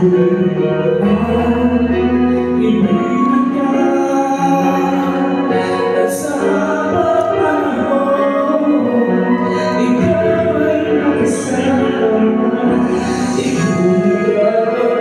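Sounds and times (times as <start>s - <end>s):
man singing into microphone: 0.0s - 15.0s
music backing track: 0.0s - 15.0s.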